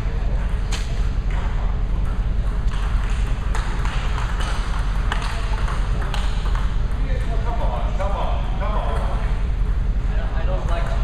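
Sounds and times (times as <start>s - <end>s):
low hum of hall: 0.0s - 11.0s.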